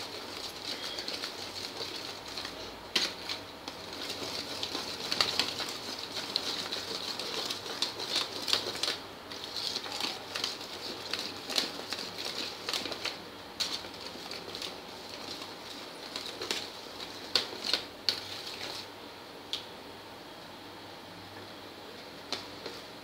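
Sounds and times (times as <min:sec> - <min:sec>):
wire whisk beating in plastic bowl: 0:00.0 - 0:18.9.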